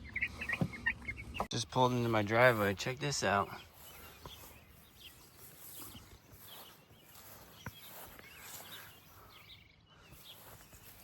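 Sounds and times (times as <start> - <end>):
faint bird chirps: 0.0 - 1.6, 3.5 - 11.0.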